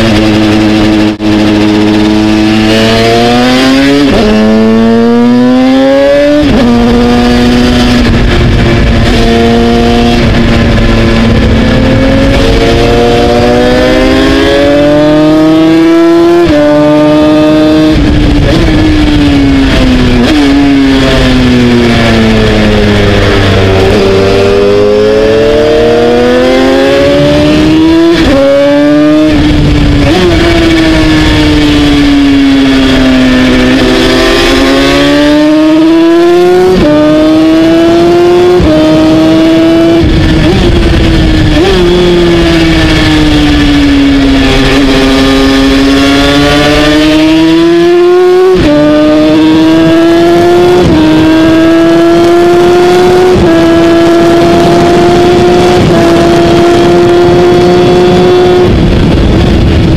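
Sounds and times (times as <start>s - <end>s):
two-stroke racing engine: 0.0s - 59.9s.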